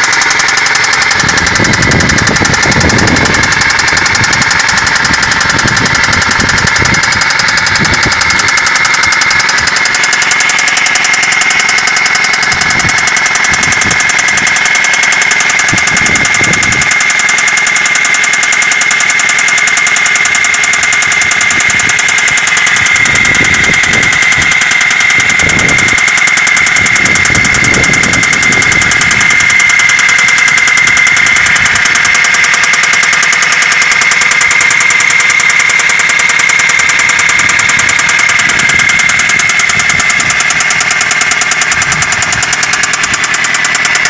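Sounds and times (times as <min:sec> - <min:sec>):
engine knocking rapidly: 0:00.0 - 0:44.0
high engine whine: 0:00.0 - 0:44.0.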